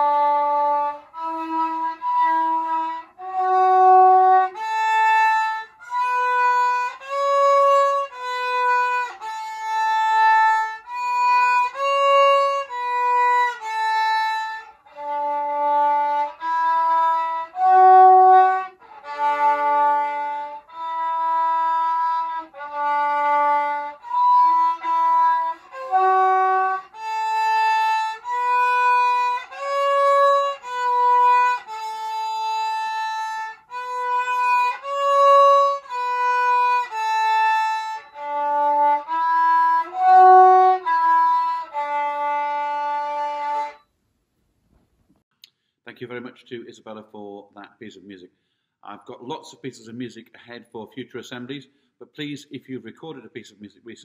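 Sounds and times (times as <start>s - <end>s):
solo violin melody: 0.0s - 43.9s.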